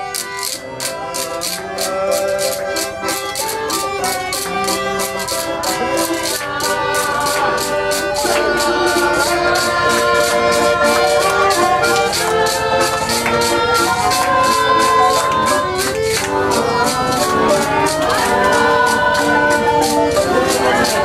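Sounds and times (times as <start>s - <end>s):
accordion folk music: 0.0s - 21.0s
hands clapping along: 0.0s - 21.0s.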